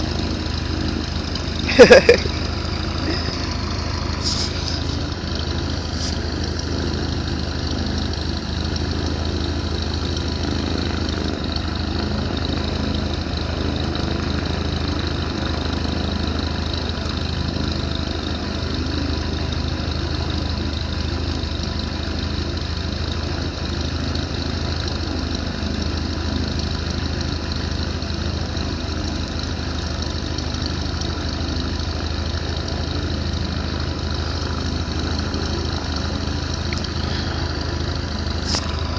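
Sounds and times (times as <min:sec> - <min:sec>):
plane engine and propeller drone: 0:00.0 - 0:38.9.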